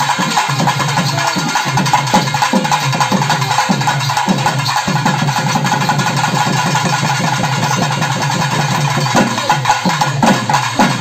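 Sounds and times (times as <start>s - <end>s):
drum roll: 0.0s - 11.0s.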